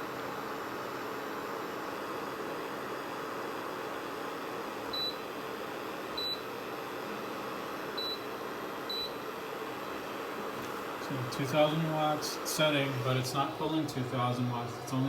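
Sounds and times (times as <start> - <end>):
cooling fan hiss: 0.0 - 15.0.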